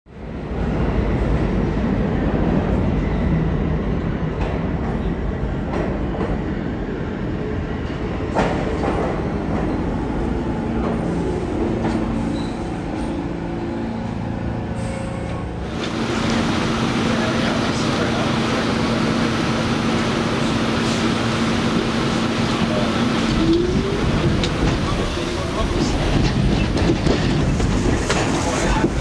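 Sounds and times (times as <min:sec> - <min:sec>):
low train hum: 0:00.1 - 0:29.0
train wheels rumbling on rails: 0:00.3 - 0:29.0.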